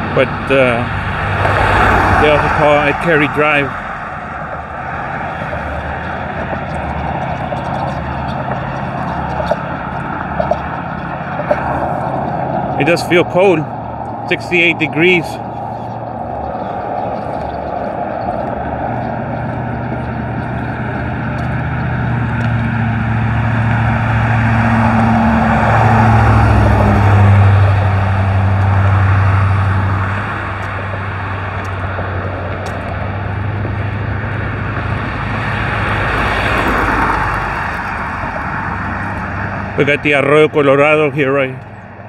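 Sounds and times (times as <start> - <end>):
road traffic: 0.0 - 42.0
car passing by: 0.1 - 42.0.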